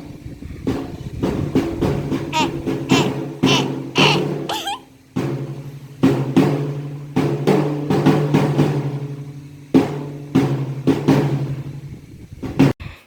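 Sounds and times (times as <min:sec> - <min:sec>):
hand drum strokes: 0:00.0 - 0:12.7.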